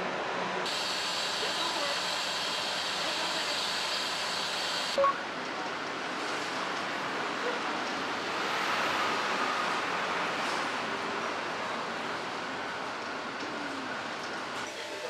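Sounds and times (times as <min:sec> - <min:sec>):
traffic and urban hum: 0:00.0 - 0:15.0.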